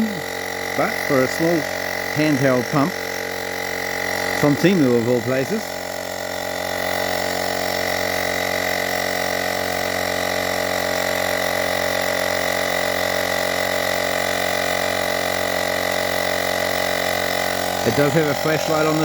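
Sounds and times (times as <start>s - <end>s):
tyre inflator compressor humming: 0.0s - 19.0s.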